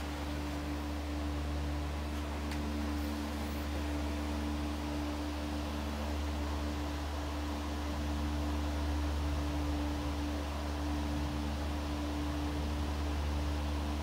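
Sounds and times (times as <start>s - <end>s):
background hiss: 0.0s - 14.0s
low hum: 0.0s - 14.0s.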